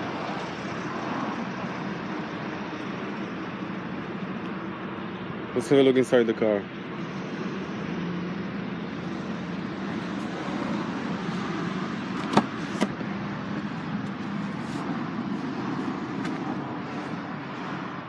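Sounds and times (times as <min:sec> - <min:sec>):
vehicle hum: 0:00.0 - 0:18.0.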